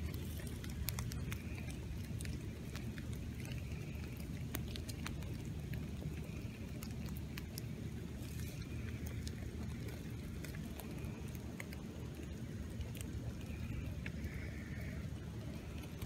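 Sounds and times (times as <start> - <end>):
rain rushing: 0.0 - 16.0
raindrops ticking: 0.0 - 16.0.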